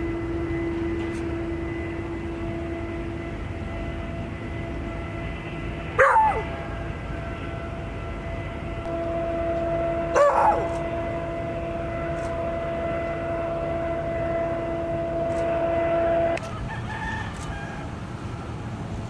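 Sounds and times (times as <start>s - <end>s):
steady humming drone: 0.0s - 16.6s.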